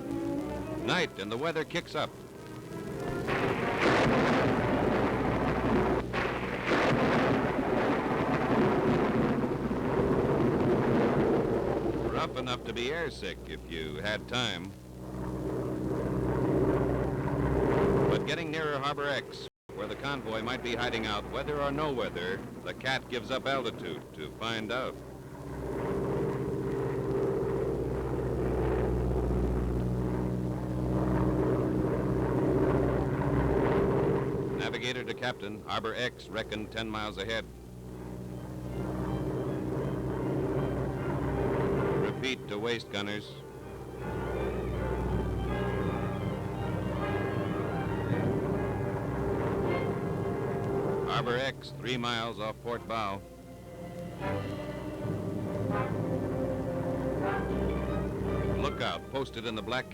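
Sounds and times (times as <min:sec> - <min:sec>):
thunder rumbling: 0:00.0 - 0:59.8
aircraft engines droning: 0:00.0 - 0:59.9
low steady hum: 0:00.0 - 0:59.9
wind and rain rushing: 0:00.0 - 0:59.9.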